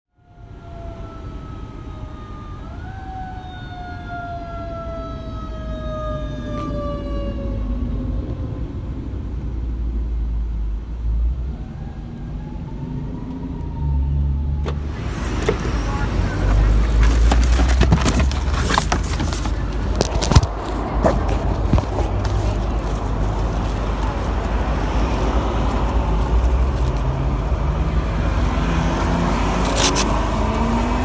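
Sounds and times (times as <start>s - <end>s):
fire engine siren wailing: 0.1s - 9.1s, 11.2s - 20.0s, 22.0s - 31.0s
low vehicle engine rumble: 0.4s - 31.0s.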